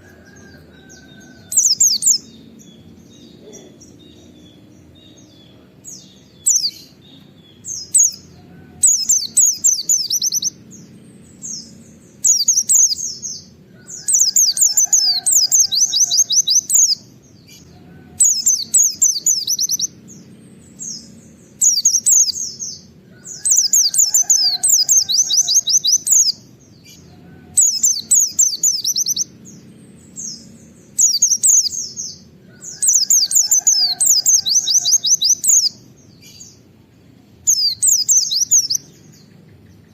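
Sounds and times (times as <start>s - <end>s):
low background noise: 0.0s - 39.9s.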